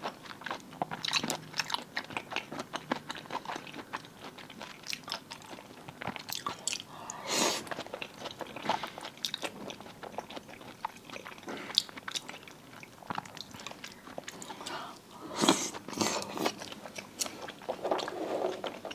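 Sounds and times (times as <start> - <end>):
wet chewing and crunching: 0.0 - 18.9.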